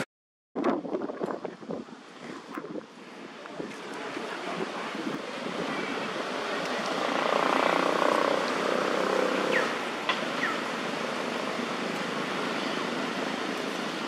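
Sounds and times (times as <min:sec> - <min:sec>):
outdoor rushing noise: 0:02.1 - 0:14.0.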